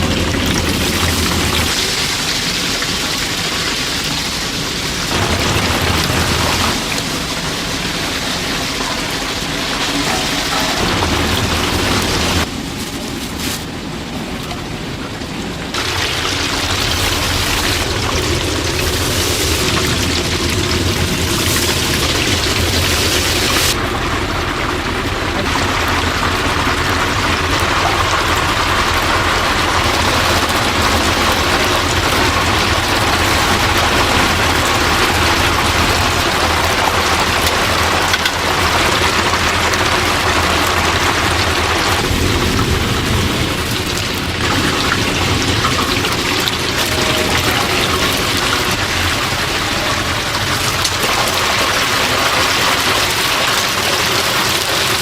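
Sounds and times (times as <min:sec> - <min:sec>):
chicken deep-frying in oil: 0:00.0 - 0:14.9, 0:15.7 - 0:55.0.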